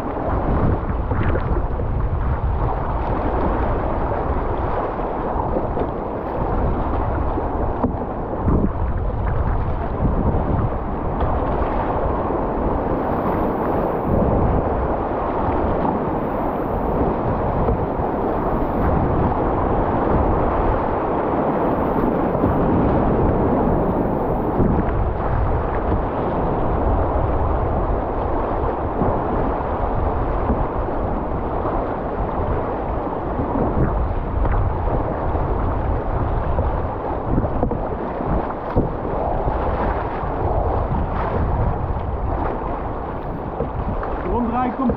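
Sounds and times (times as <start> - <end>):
whitewater rapids rushing and splashing: 0.0 - 44.9.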